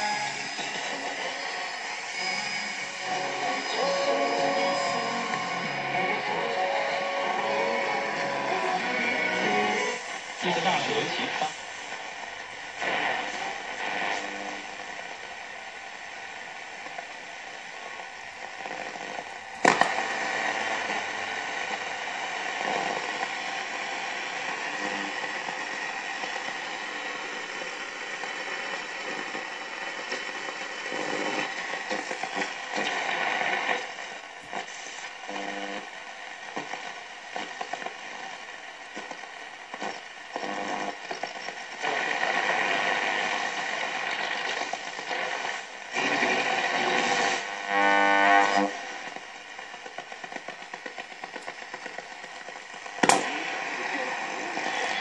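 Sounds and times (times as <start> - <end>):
radio signal snatches: 0.0 - 55.0
radio static: 0.0 - 55.0.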